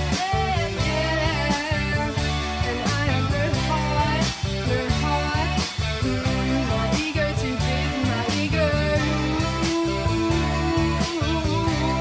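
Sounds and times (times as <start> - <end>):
live band instrumental music: 0.0 - 12.0.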